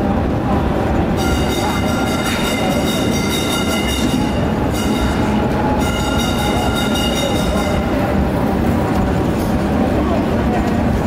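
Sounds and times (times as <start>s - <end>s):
tram running on rails: 0.0s - 11.0s.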